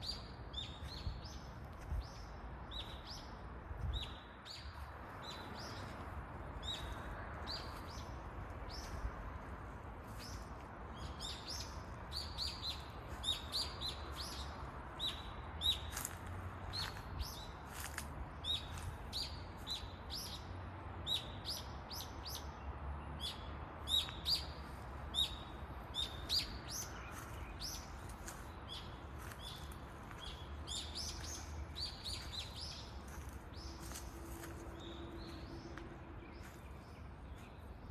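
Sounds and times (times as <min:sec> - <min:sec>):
small songbirds chirping: 0:00.0 - 0:37.9.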